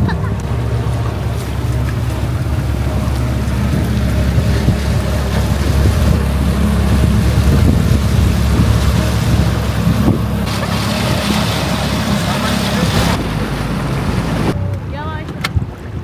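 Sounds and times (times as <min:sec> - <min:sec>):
boat engine humming: 0:00.0 - 0:16.0
water rushing: 0:00.0 - 0:16.0
wind: 0:00.0 - 0:16.0.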